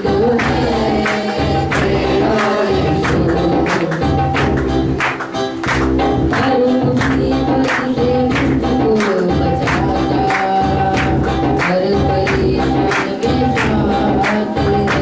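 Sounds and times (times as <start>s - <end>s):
voices singing together: 0.0s - 4.3s, 6.3s - 15.0s
percussion beat: 0.0s - 15.0s.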